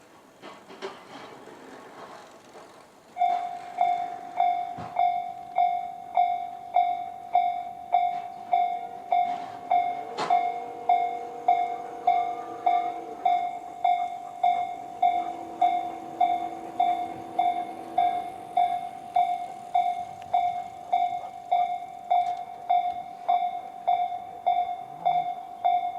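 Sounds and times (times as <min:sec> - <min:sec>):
level crossing electronic bell: 0:03.2 - 0:25.9.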